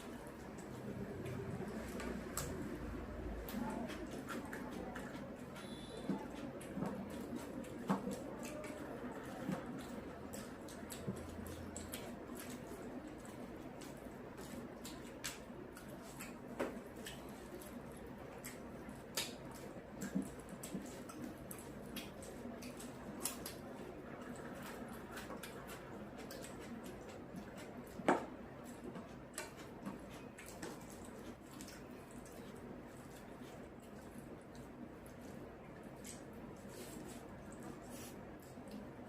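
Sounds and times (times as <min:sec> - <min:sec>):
wet chewing and mouth smacks: 0:00.0 - 0:39.0.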